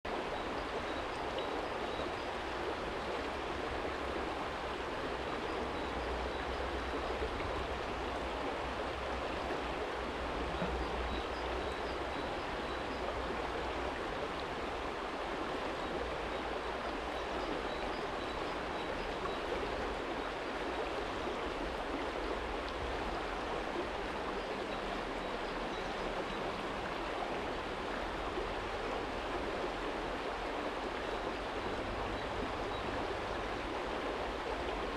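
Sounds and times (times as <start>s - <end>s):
stream flowing over stones: 0.1s - 34.9s.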